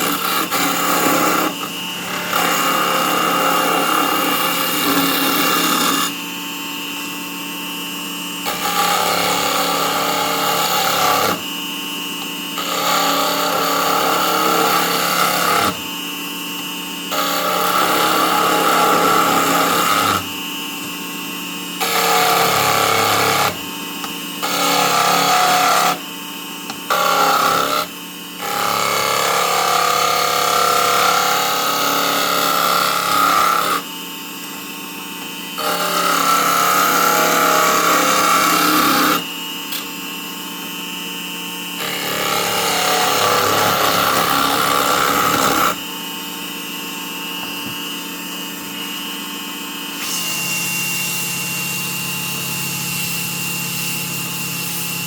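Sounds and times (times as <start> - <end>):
turning tool cutting wood: 0.0 - 40.9, 41.7 - 46.4, 49.9 - 55.0
wood lathe motor hum: 0.0 - 55.0.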